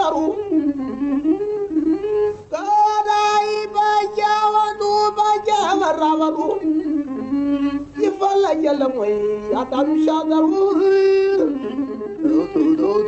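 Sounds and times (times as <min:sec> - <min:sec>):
person chanting: 0:00.0 - 0:13.0.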